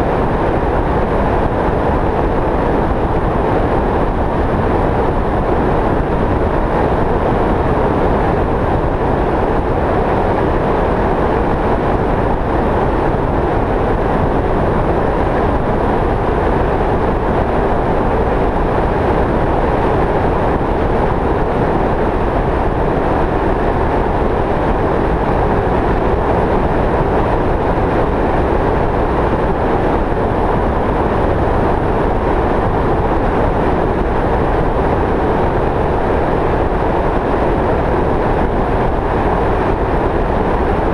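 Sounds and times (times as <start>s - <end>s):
road and wind noise: 0.0s - 40.9s.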